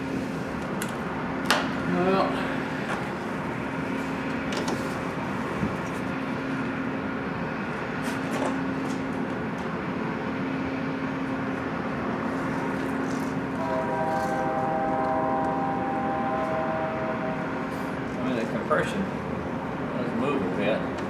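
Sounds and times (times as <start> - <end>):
mechanical droning hum: 0.0 - 21.0.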